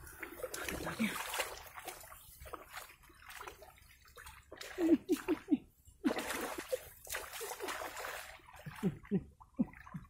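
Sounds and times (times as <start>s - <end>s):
muddy water splashing: 0.0s - 10.0s.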